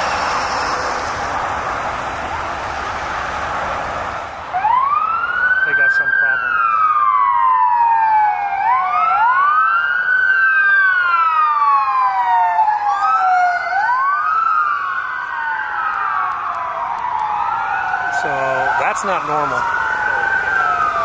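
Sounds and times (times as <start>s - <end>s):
police sirens wailing: 0.0s - 21.0s.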